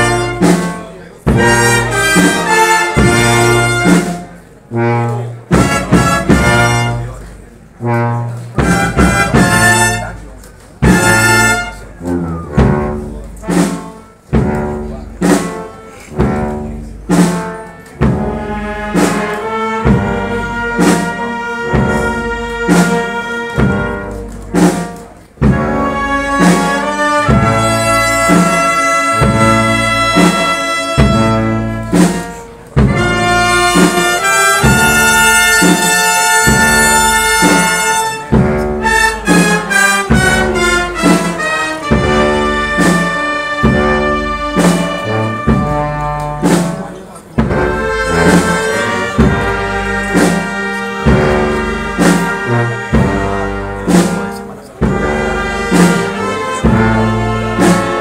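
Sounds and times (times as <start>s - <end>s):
brass band playing slow march: 0.0s - 58.0s
drum strokes: 0.0s - 58.0s.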